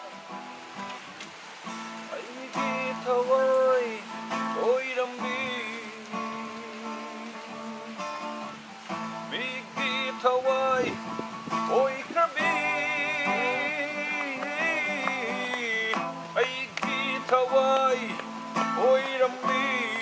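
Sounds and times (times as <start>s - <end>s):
acoustic guitar: 0.0s - 20.0s
man singing: 2.1s - 8.1s, 9.3s - 20.0s.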